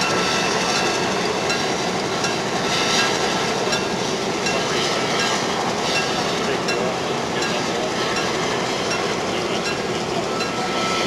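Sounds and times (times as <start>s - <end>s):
diesel locomotive engines running: 0.0s - 11.0s.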